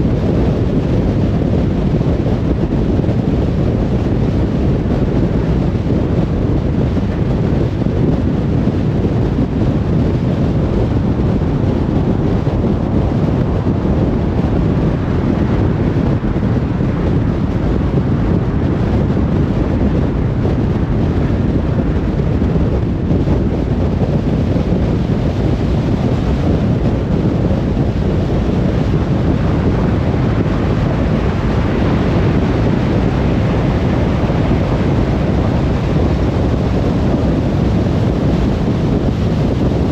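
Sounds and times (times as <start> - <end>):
car tyre and wind rumble: 0.0 - 39.9.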